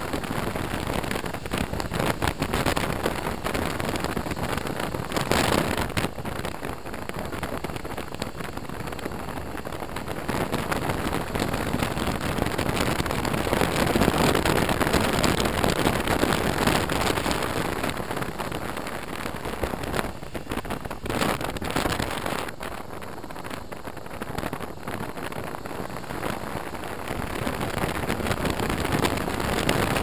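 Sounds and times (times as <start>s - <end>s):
wind rushing over helmet: 0.0s - 30.0s.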